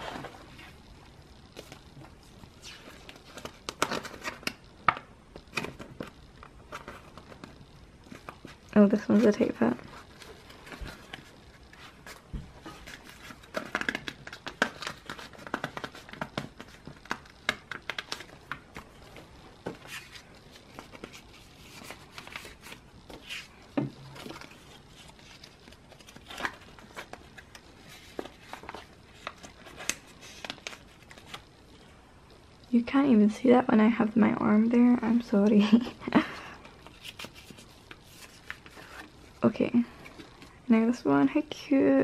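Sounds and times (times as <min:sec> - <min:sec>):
plastic sleeves crinkling: 0:00.0 - 0:31.5, 0:35.7 - 0:40.4.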